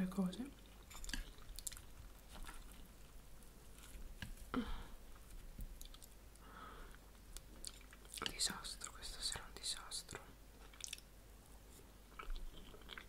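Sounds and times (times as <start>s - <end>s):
close chewing and wet mouth sounds: 0.4s - 4.5s, 5.1s - 13.0s.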